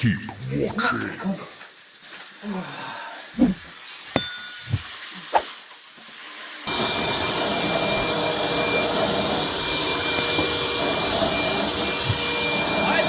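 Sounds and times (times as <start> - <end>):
water spraying from burst pipe: 0.4 - 13.0.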